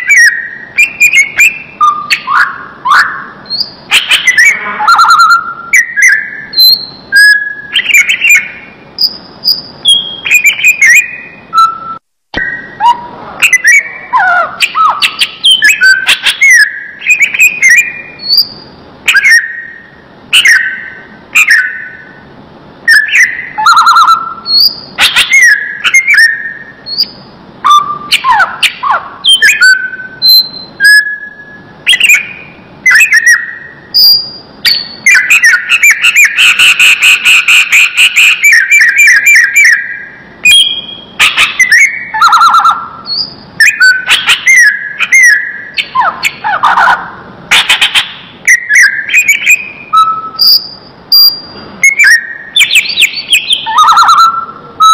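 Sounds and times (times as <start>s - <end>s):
bird singing whistled phrases: 0.0s - 22.2s, 22.9s - 54.9s
rapid bird trill: 0.0s - 54.9s.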